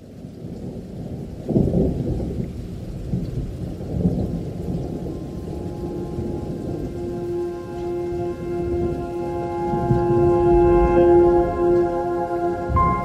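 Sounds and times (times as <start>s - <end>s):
thunder rumbling: 0.2s - 13.0s.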